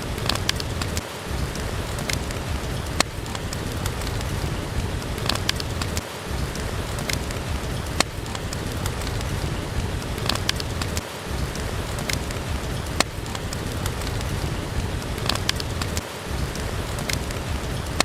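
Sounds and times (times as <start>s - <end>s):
steady rain: 0.0s - 18.0s
wood fire crackling: 0.0s - 18.0s.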